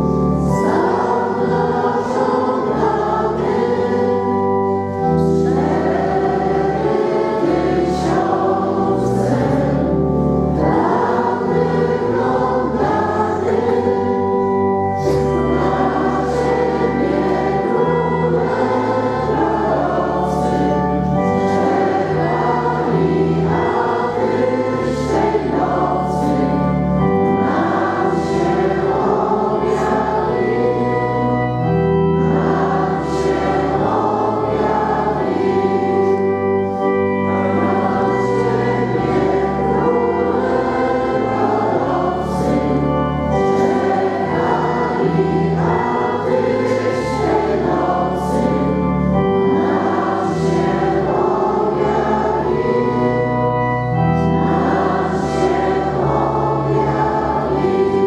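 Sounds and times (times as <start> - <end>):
congregation singing a hymn: 0.0 - 58.0
organ accompaniment: 0.0 - 58.0.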